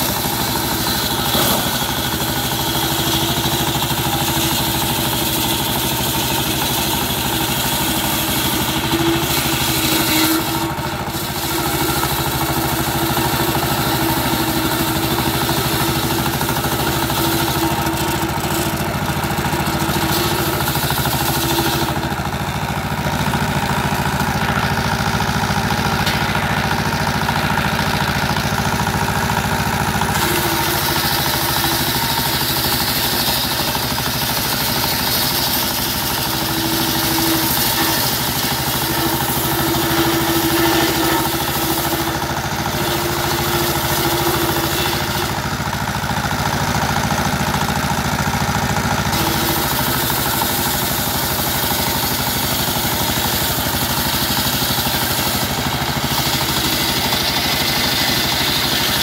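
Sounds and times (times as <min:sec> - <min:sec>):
circular saw cutting wood: 0:00.0 - 0:59.0
diesel engine running: 0:00.0 - 0:59.0.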